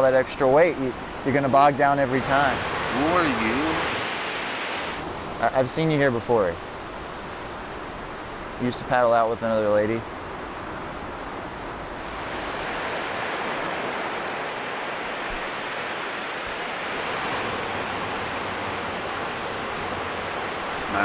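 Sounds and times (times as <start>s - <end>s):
ocean surf washing on beach: 0.0s - 21.0s.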